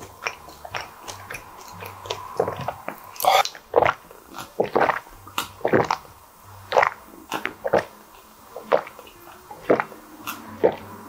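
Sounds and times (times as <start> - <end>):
swallowing gulps: 0.0 - 11.0.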